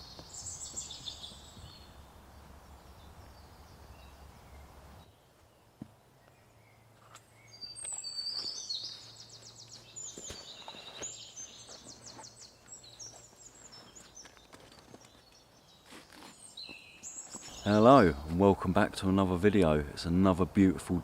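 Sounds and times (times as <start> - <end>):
songbird trilling and twittering: 0.0 - 18.4.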